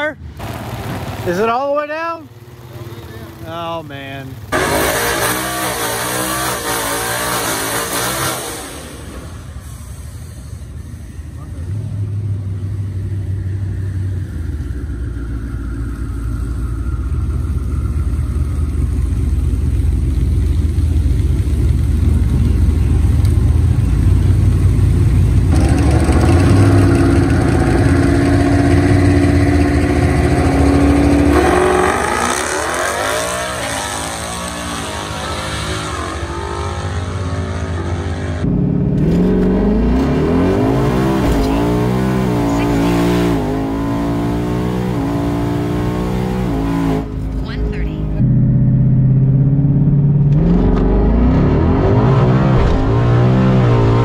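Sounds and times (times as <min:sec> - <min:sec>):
car engine revving: 0:00.0 - 0:10.4, 0:11.4 - 0:54.0.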